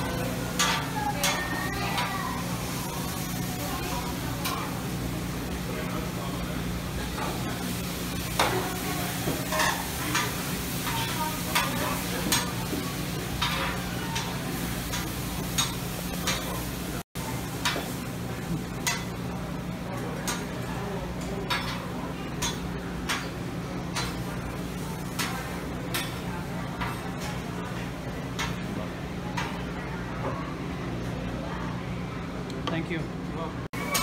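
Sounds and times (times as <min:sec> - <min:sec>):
food sizzling on a griddle: 0:00.0 - 0:28.8.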